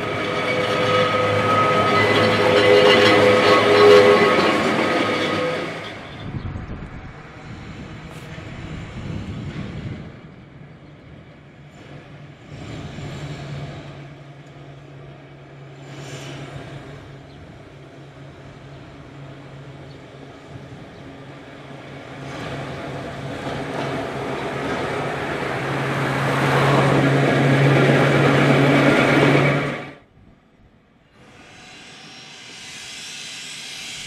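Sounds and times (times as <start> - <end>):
diesel locomotive engine humming: 0.0 - 31.3.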